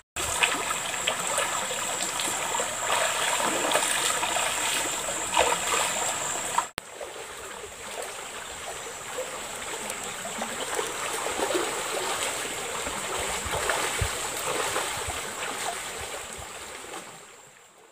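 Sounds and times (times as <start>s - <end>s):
river water flowing: 0.2s - 17.9s.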